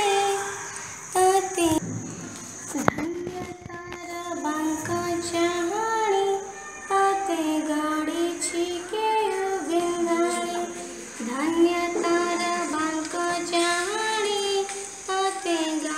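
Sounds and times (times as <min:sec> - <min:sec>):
girl singing devotional song: 0:00.0 - 0:01.8, 0:02.7 - 0:15.9.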